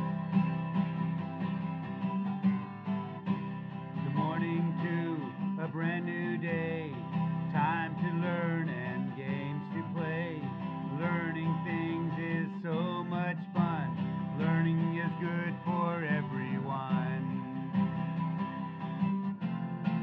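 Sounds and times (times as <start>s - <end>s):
background guitar music: 0.0s - 20.0s.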